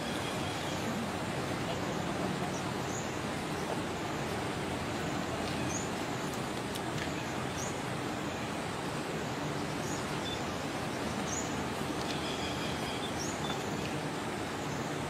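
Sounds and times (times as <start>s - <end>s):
hiss and rumble: 0.0s - 15.0s.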